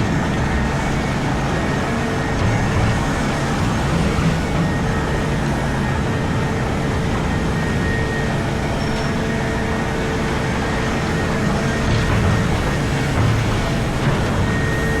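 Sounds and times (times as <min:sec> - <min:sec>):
excavator engine droning: 0:00.0 - 0:15.0.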